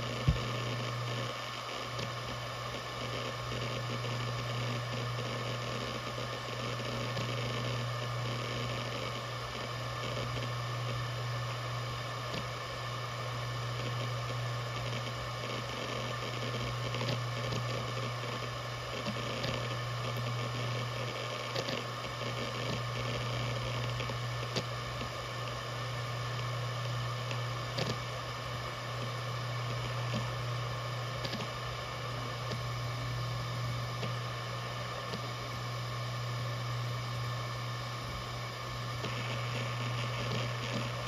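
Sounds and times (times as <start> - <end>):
faint hard drive ticks: 0.0 - 12.6, 13.2 - 28.2, 28.8 - 41.0
hard drive humming: 0.0 - 41.0.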